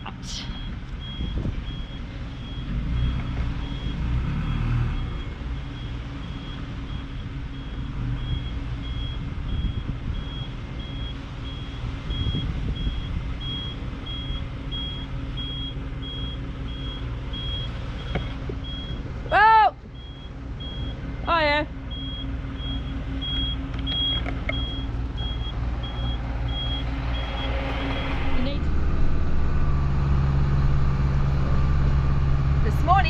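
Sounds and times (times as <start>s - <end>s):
reversing beeper: 0.0s - 19.0s, 20.0s - 21.0s, 21.9s - 28.6s
truck engine running: 0.0s - 33.0s.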